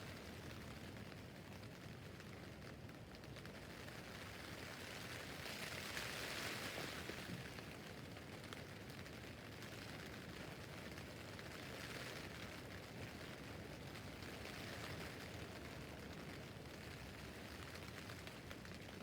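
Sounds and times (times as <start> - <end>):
rain on tent roof: 0.0 - 19.0.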